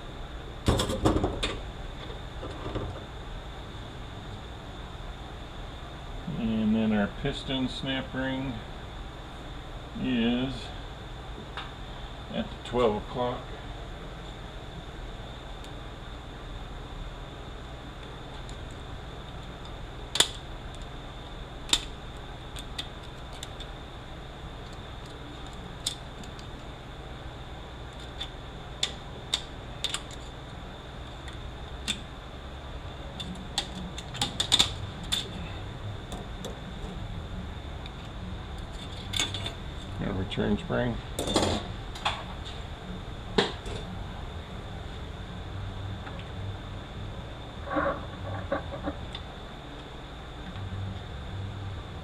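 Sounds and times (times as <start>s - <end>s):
shop hum with high whine: 0.0s - 52.0s.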